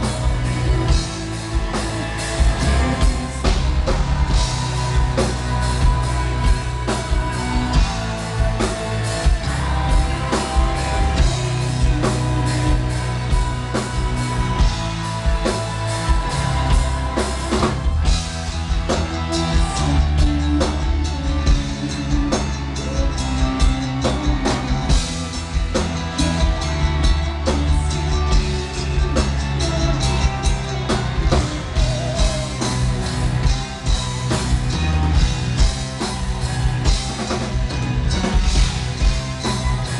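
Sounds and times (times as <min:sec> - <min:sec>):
drum kit: 0:00.0 - 0:39.9
heavy guitars: 0:00.0 - 0:39.9
sung vocals: 0:00.0 - 0:39.9.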